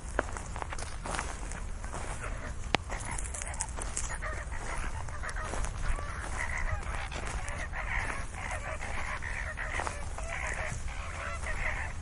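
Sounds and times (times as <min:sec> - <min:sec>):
flamingos honking: 0:00.0 - 0:12.0.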